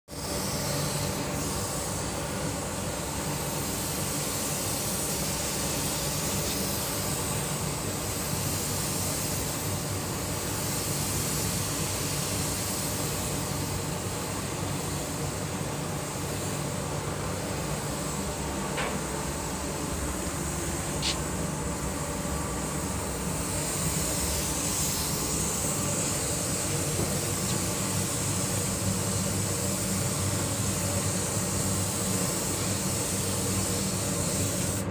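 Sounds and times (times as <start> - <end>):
air hiss: 0.1 - 34.9.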